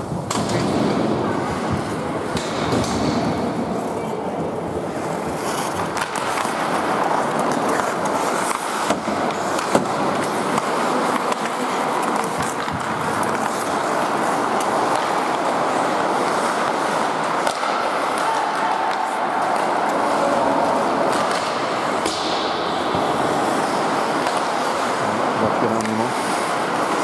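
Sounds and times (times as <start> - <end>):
hockey sticks and puck clacking: 0.0 - 27.0
skates scraping ice: 0.0 - 27.0.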